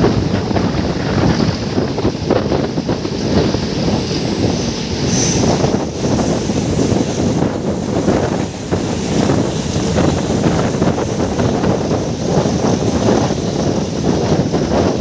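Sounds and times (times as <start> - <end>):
train wheels on rails: 0.0 - 15.0
wind on microphone: 0.0 - 15.0.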